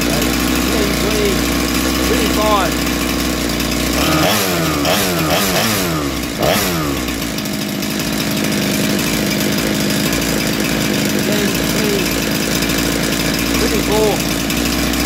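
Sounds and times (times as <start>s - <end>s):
chainsaw engine revving and idling: 0.0s - 15.0s.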